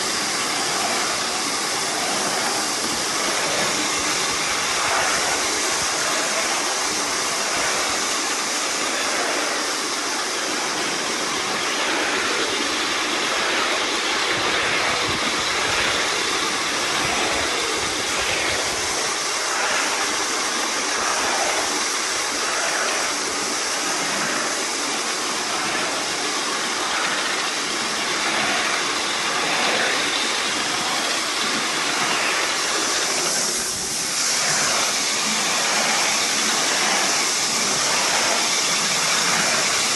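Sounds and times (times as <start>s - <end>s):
hissing steam and exhaust: 0.0s - 39.9s.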